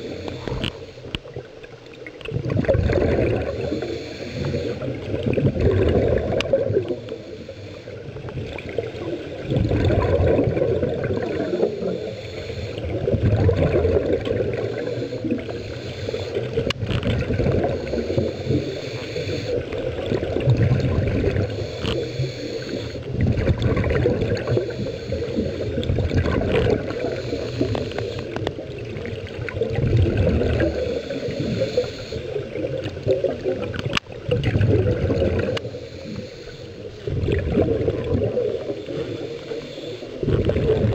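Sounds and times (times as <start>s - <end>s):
low rumble of water: 0.0s - 40.9s
regulator air bubbling underwater: 0.0s - 40.9s.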